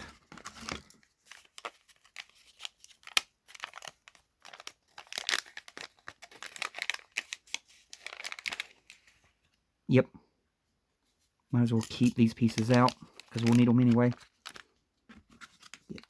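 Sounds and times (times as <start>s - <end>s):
plastic packaging crinkling: 0.0s - 9.2s, 11.6s - 16.0s.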